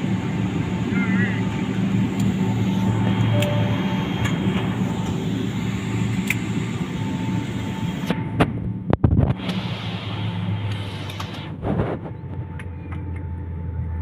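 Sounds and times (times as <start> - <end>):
airliner cabin hum and hiss: 0.0 - 14.0.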